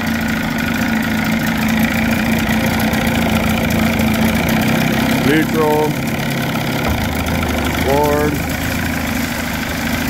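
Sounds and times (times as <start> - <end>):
outboard motor idling: 0.0 - 10.0.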